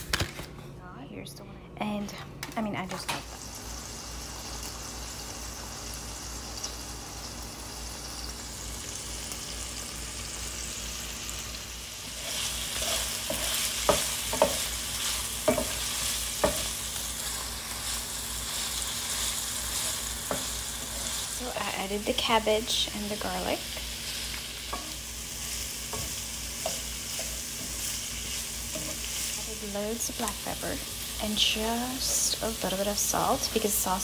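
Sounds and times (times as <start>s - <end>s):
sausage sizzling in frying pan: 3.3s - 34.0s.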